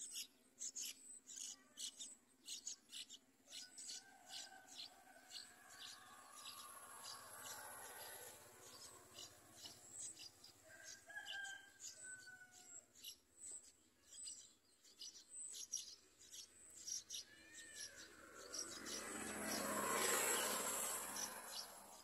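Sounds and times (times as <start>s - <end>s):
nestlings begging chirps: 0.0s - 22.0s.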